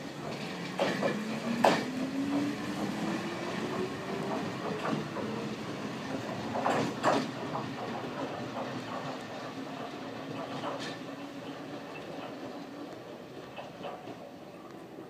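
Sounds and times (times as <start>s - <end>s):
wheels clacking over rail joints: 0.0s - 15.0s.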